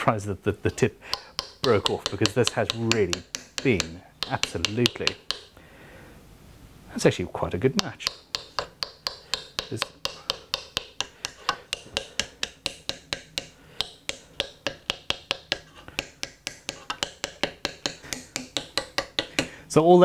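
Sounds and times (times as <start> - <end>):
metal tool tapping wood: 0.7 - 5.6, 7.8 - 19.6.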